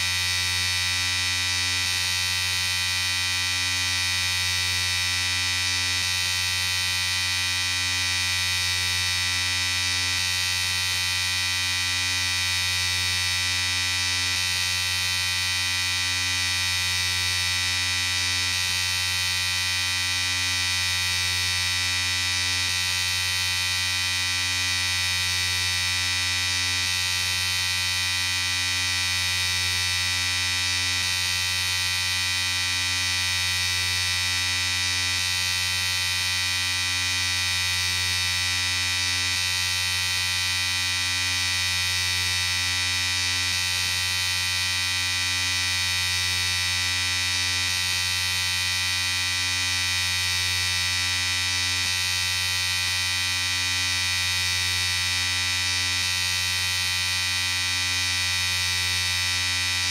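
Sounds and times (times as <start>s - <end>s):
electric shaver buzzing: 0.0s - 59.9s.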